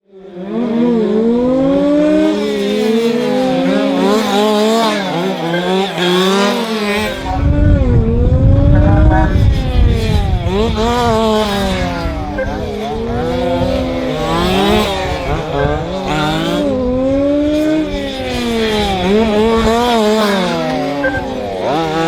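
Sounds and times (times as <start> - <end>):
model car motors whining: 0.1 - 22.0.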